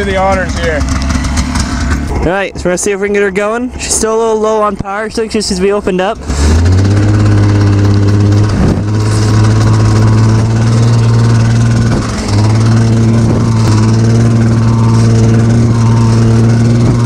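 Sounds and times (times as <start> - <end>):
snowmobile two-stroke engine running: 0.0 - 17.0.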